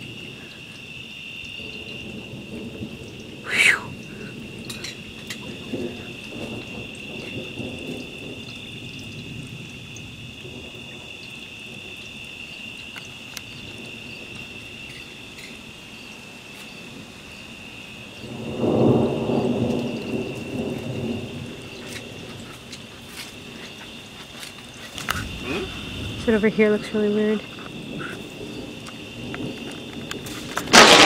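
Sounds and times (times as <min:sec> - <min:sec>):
thunder rumbling: 0:00.0 - 0:15.4, 0:16.8 - 0:31.0.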